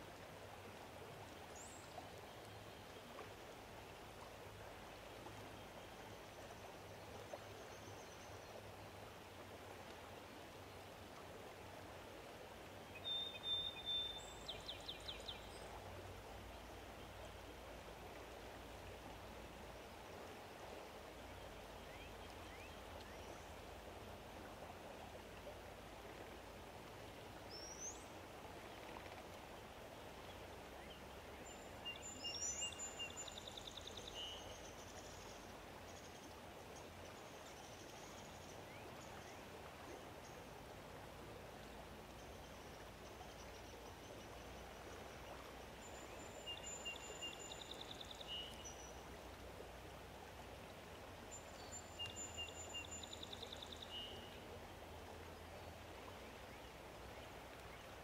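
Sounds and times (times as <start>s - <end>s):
soft steady hiss: 0.0s - 58.0s.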